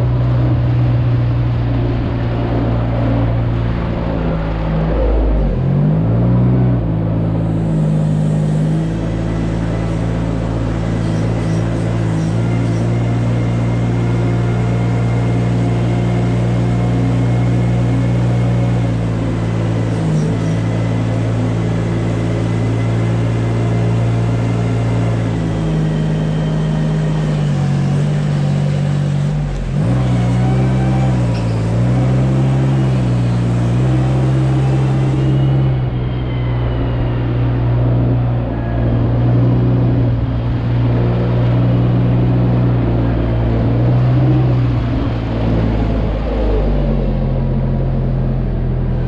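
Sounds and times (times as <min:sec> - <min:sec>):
loader engine running: 0:00.0 - 0:49.0.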